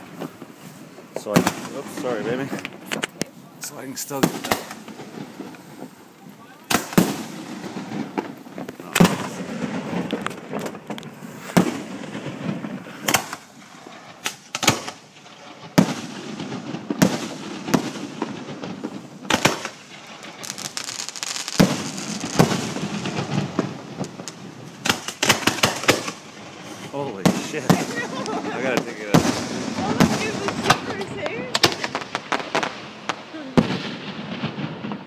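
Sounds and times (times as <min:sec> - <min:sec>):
fireworks bangs: 0:00.0 - 0:35.0
fireworks cracks: 0:00.0 - 0:35.0.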